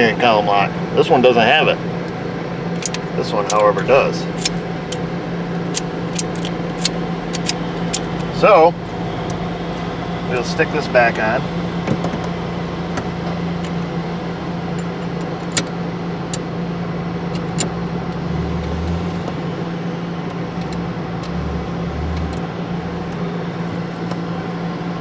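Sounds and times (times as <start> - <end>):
low machinery hum: 0.0 - 25.0.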